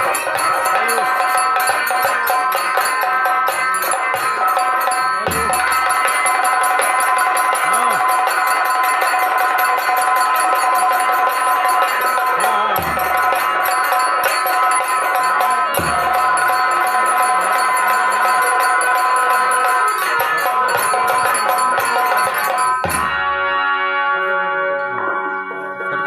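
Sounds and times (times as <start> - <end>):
rapid metallic jingling: 0.0 - 23.2
drum strokes: 0.0 - 23.5
steady held notes: 0.0 - 26.0.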